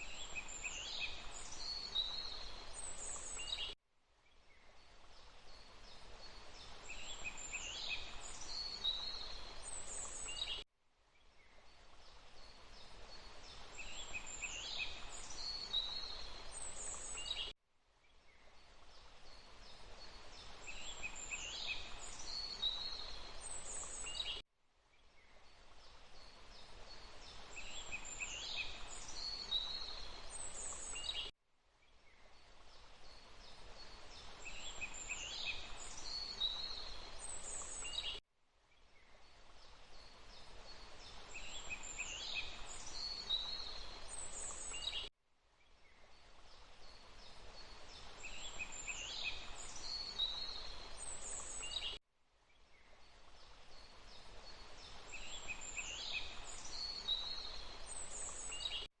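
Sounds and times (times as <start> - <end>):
steady forest hiss: 0.0 - 58.9.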